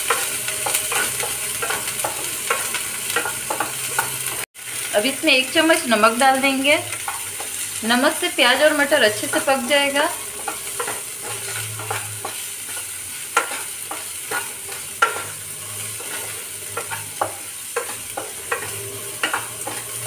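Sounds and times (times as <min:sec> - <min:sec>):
spatula scraping and tapping pan: 0:00.0 - 0:04.5, 0:06.9 - 0:07.7, 0:08.6 - 0:20.0
onions and peas sizzling in a pan: 0:00.0 - 0:20.0.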